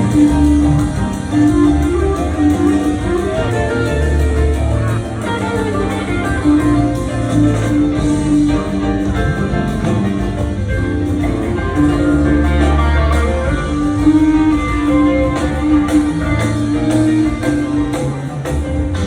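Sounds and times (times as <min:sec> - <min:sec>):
bass guitar: 0:00.0 - 0:19.0
drums: 0:00.0 - 0:19.0
electric guitar lines: 0:00.0 - 0:19.0.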